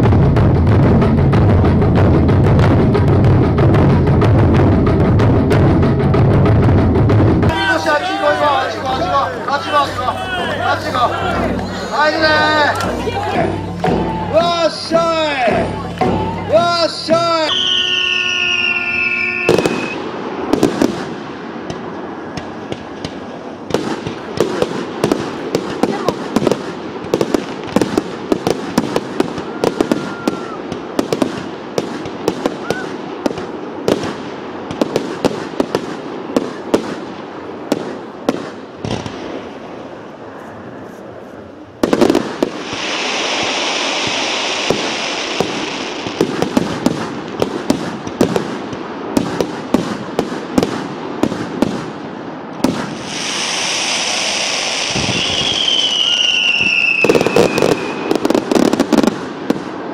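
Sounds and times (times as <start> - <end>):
fireworks bursting: 0.0 - 59.9
fireworks hissing: 7.4 - 59.9.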